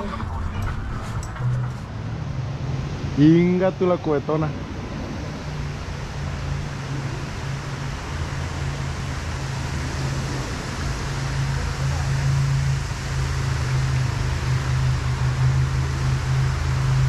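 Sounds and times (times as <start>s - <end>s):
low mechanical hum: 0.0s - 17.0s
rushing noise: 0.0s - 17.0s.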